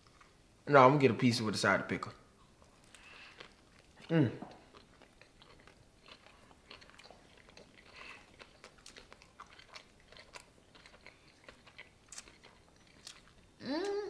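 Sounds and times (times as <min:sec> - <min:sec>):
crunchy chewing: 0:02.4 - 0:14.0.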